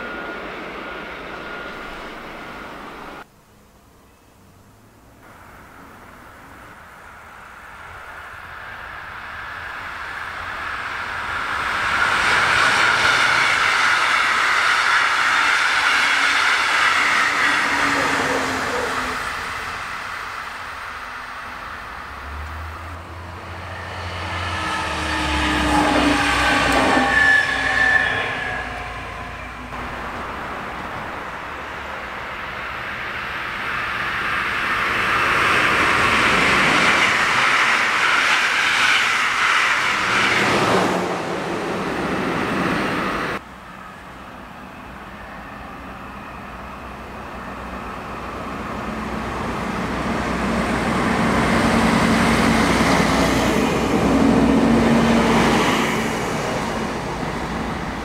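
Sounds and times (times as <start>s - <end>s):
diesel railcar approaching: 0.0s - 58.0s.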